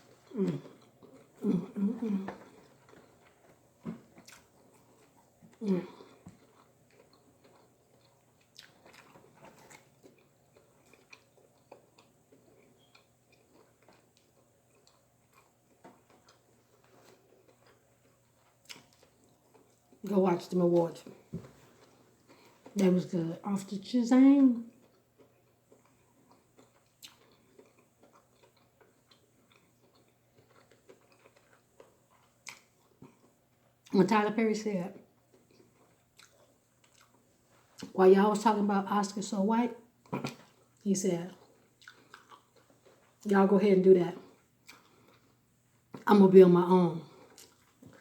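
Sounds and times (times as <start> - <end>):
faint chewing: 0.0 - 23.7, 24.3 - 34.0, 34.9 - 38.0, 39.2 - 46.1, 47.0 - 48.0.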